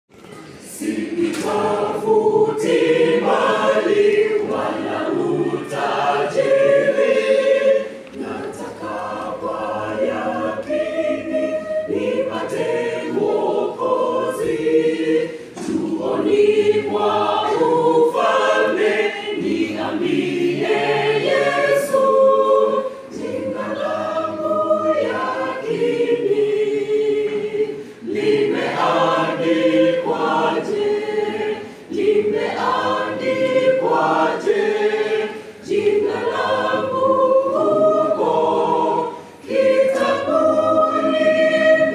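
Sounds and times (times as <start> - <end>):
mixed choir singing a hymn: 0.4 - 41.9.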